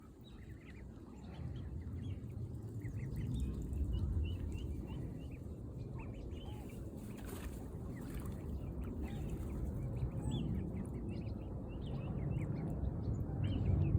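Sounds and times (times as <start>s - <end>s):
steady low rumble: 0.1s - 7.0s, 7.6s - 13.9s.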